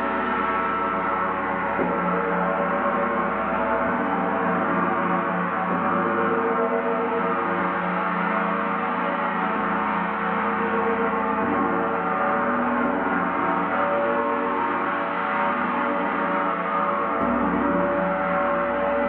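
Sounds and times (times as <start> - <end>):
gong ringing: 0.0 - 19.0.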